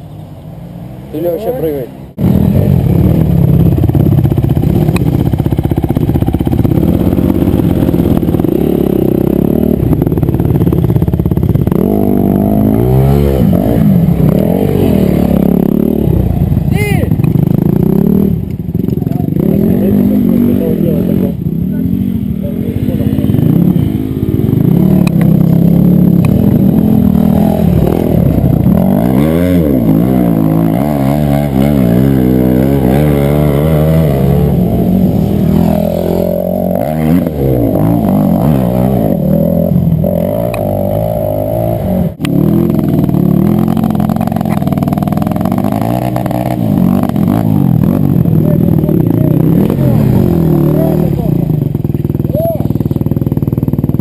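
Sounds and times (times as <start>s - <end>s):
motorcycle engines revving hard: 0.6s - 54.0s.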